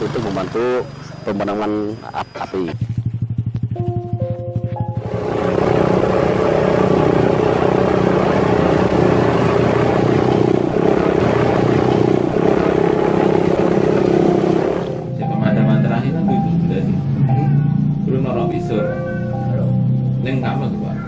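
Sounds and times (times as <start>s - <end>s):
dirt bike engine running: 0.0s - 21.0s.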